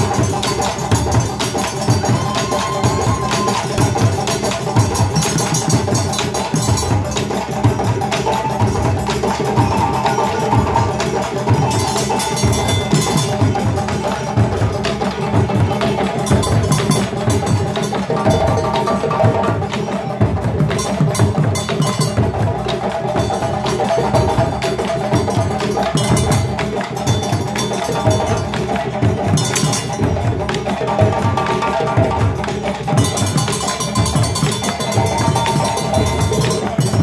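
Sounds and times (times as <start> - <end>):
hand drums playing fast rhythm: 0.0 - 37.0.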